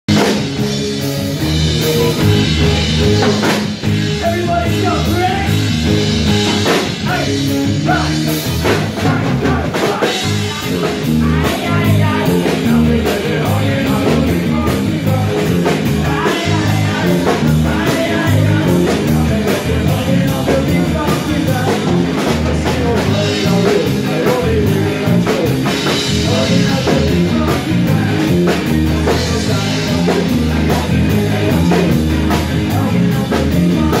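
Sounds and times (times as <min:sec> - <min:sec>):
drum kit beat: 0:00.1 - 0:34.0
electric guitars: 0:00.1 - 0:34.0
person singing: 0:01.0 - 0:05.7, 0:06.4 - 0:34.0.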